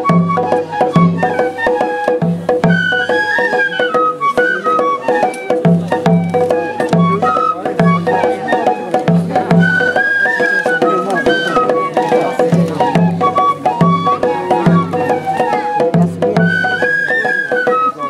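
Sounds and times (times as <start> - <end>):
bamboo flute melody: 0.0 - 18.0
taiko drum beats: 0.0 - 18.0.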